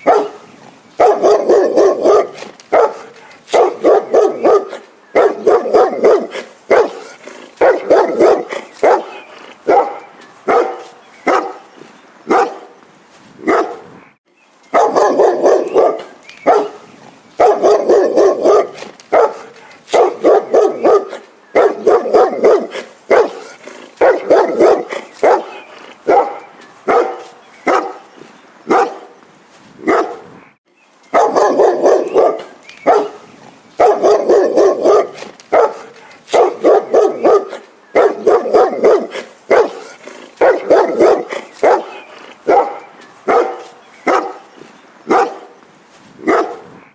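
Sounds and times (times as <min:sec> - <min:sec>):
dog barking: 0:00.0 - 0:11.7, 0:12.3 - 0:12.8, 0:13.4 - 0:13.9, 0:14.7 - 0:28.1, 0:28.7 - 0:29.2, 0:29.8 - 0:30.3, 0:31.1 - 0:44.5, 0:45.1 - 0:45.6, 0:46.2 - 0:46.7.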